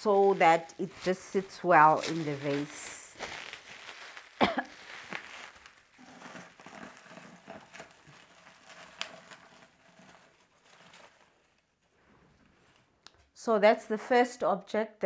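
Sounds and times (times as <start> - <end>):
bubble wrap crinkling: 0.0 - 13.3.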